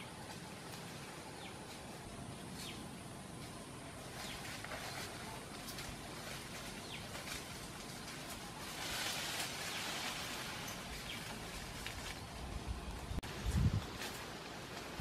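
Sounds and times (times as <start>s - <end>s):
brush and leaves rustling: 0.0s - 15.0s.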